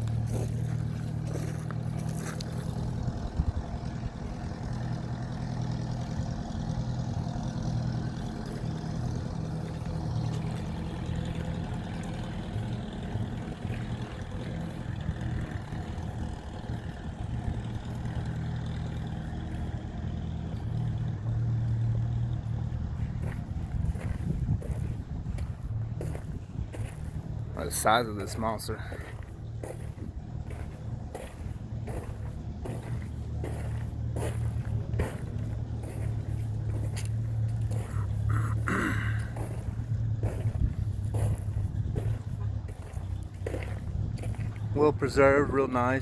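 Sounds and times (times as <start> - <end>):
engine humming steadily: 0.0 - 46.0.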